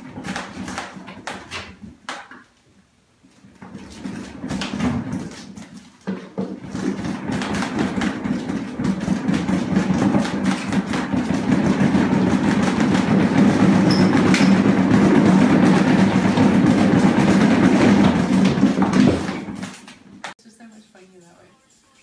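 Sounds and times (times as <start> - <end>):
exercise wheel rolling and rumbling: 0.0 - 2.1, 3.2 - 20.4.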